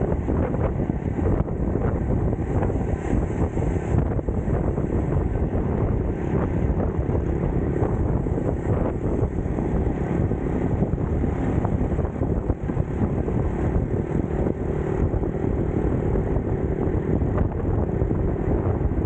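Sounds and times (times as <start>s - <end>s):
road noise: 0.0s - 19.0s
wind rumble on microphone: 0.0s - 19.0s.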